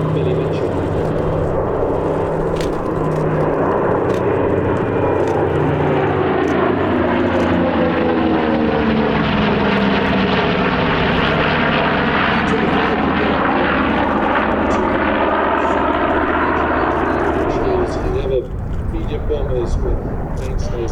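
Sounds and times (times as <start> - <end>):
propeller aircraft flying past: 0.0 - 20.9.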